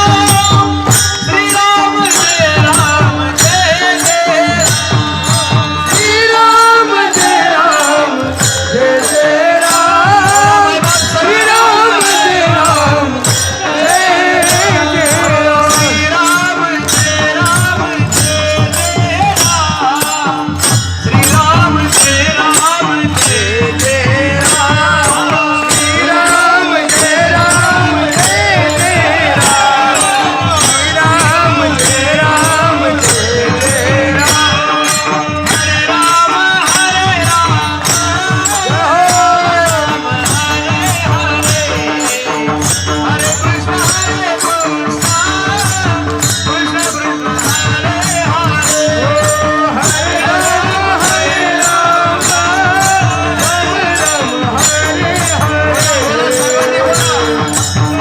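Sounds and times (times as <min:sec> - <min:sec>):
steady percussion beat: 0:00.0 - 0:58.0.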